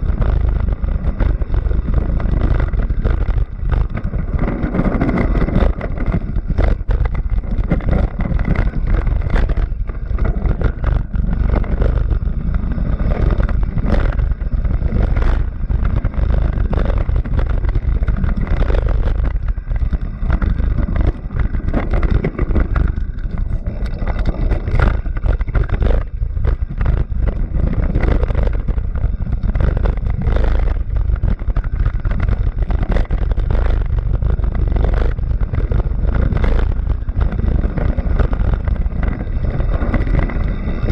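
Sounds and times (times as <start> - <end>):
vehicle engine running: 0.0 - 40.9
wind buffeting microphone: 0.0 - 40.9.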